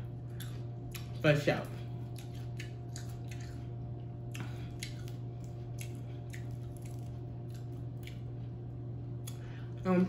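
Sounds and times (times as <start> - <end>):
chewing crunchy raw pepper: 0.0 - 1.2, 1.8 - 9.8
low electrical hum: 0.0 - 10.0.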